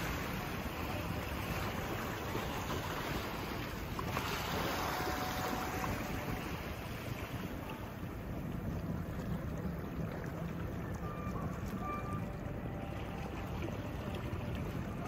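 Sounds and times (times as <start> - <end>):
water washing on shore: 0.0 - 15.0.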